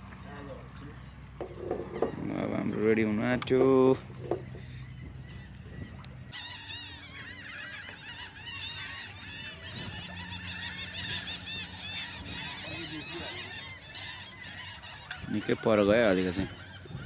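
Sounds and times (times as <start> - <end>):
steady low hum: 0.0 - 15.2
flock of birds calling: 0.3 - 17.0.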